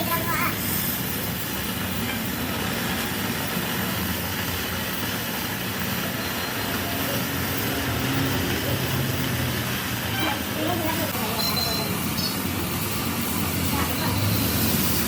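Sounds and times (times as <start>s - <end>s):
road traffic noise: 0.0s - 15.0s
vehicle engine running: 0.0s - 15.0s.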